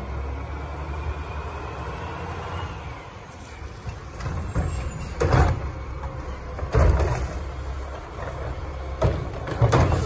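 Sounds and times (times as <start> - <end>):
diesel engine revving: 0.0 - 10.0.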